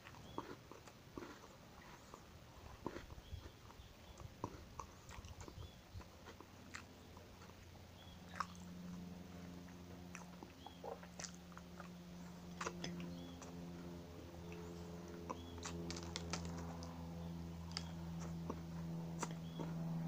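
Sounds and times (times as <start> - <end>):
cookie crunching while chewing: 0.0 - 20.0
faint low hum: 0.0 - 20.0.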